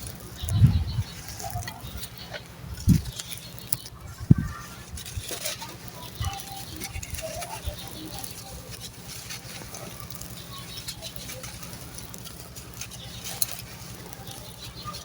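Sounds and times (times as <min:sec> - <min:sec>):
sand-cement chunks crunching: 0:00.0 - 0:15.0.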